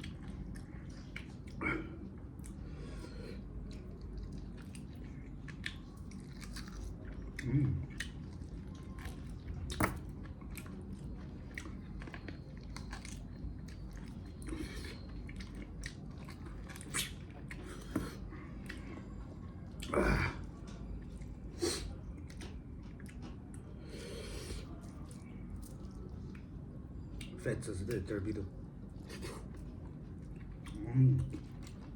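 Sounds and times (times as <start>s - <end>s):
person chewing meat: 0.0s - 27.4s, 28.6s - 31.9s.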